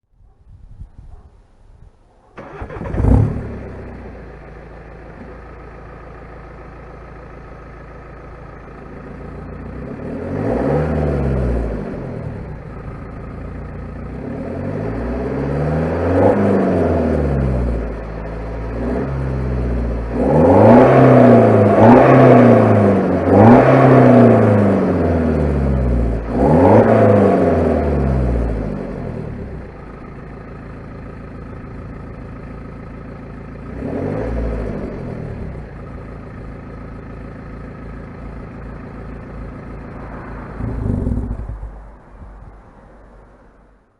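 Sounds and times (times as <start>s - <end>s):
diesel engine starting and idling: 2.3s - 43.9s
diesel engine revving: 2.4s - 43.0s.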